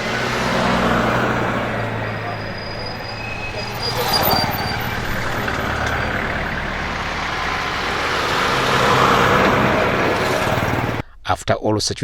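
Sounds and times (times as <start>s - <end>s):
heavy vehicle engine running: 0.0s - 11.0s
road traffic: 0.0s - 11.0s.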